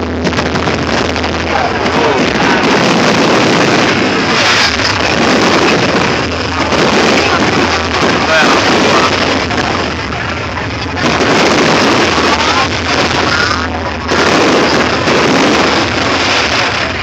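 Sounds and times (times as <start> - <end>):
fireworks rumbling and crackling: 0.0 - 17.0.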